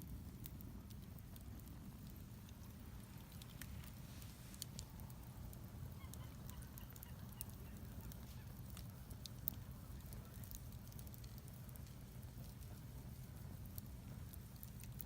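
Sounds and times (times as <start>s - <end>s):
fire crackling and popping: 0.0s - 15.0s
low steady rumble: 0.0s - 15.0s.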